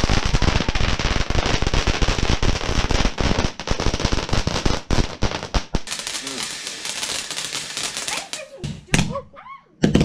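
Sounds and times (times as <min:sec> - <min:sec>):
firework fountain crackling: 0:00.0 - 0:09.1.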